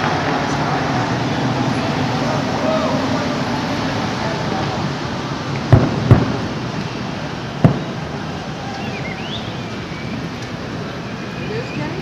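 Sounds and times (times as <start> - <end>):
fireworks booming: 0.0 - 10.9
outdoor background noise: 0.0 - 12.0.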